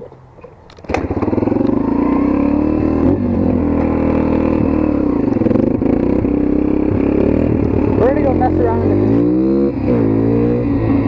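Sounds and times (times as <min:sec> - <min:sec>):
motorcycle engine running: 0:00.8 - 0:11.0.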